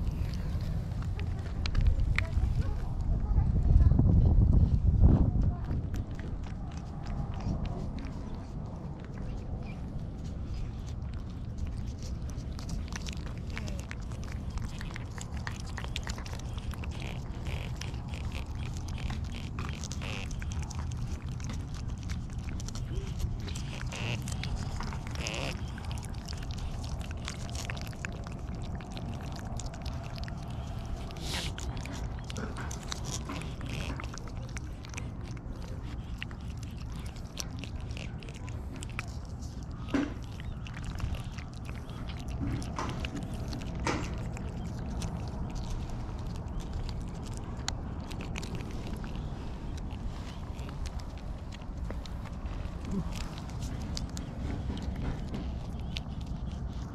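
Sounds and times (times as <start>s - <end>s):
cats licking wet clicks: 0.0s - 3.4s, 5.4s - 56.9s
steady low rumble: 0.0s - 56.9s.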